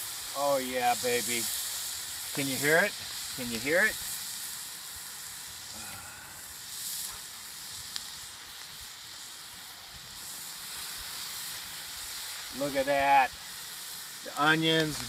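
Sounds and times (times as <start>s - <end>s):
meat and onions sizzling on griddle: 0.0s - 15.0s.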